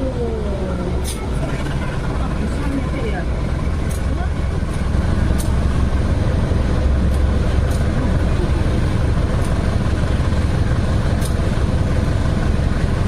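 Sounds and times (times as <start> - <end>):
passenger train rumble: 0.0 - 13.0.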